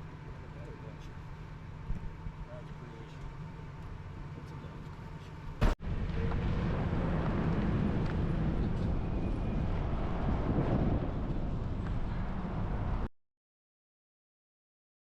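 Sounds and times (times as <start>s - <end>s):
vehicle engine and road noise: 0.0s - 13.1s.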